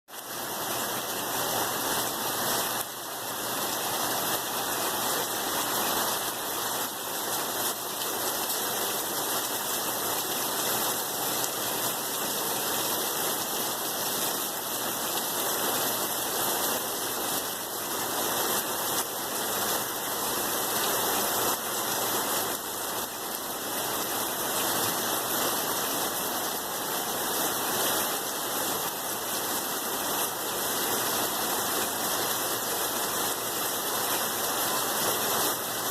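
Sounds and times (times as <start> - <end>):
steady rain: 0.1 - 35.9.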